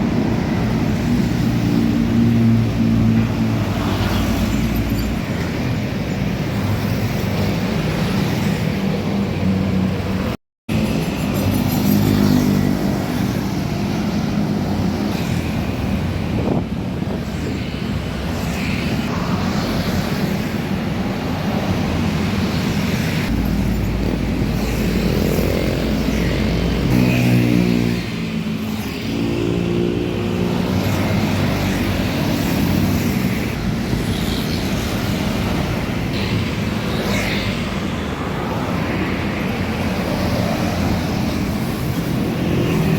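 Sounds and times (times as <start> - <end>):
bus engines running: 0.0 - 42.9
road traffic: 0.0 - 42.9.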